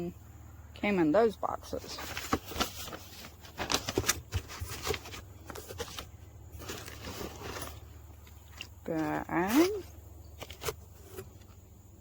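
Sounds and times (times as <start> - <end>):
cardboard and plastic packaging rustling: 1.6 - 11.8.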